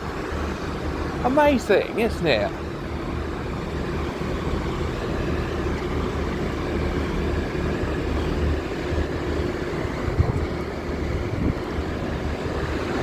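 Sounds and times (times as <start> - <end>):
train engine idling: 0.0 - 13.0.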